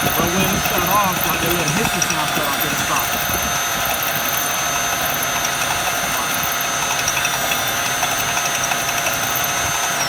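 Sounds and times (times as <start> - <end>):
car engine idling: 0.0 - 9.4
metallic engine noise: 0.0 - 10.0.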